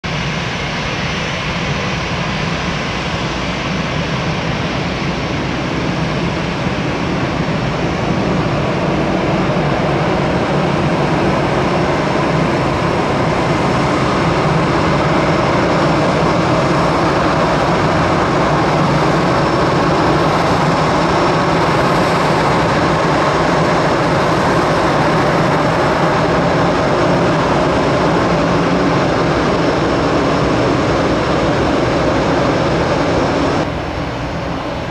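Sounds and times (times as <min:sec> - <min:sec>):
twin propeller engines running: 0:00.1 - 0:34.9.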